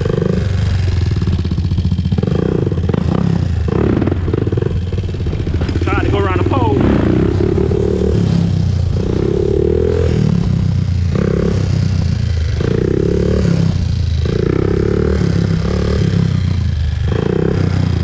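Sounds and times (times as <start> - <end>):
quad engine revving: 0.0 - 18.0.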